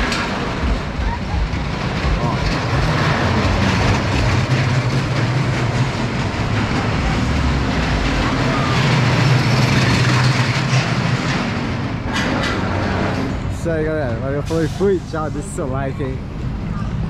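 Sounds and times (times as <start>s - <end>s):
roller coaster rolling rumble: 0.0s - 17.0s.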